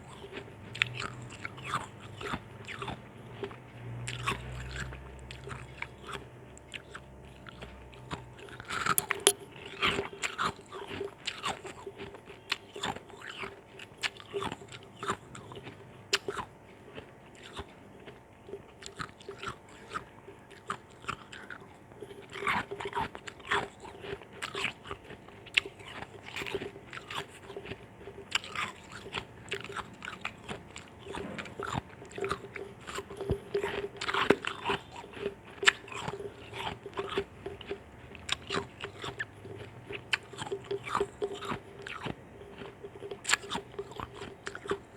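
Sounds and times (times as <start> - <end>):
ice chunks crunched by chewing: 0.0 - 44.9.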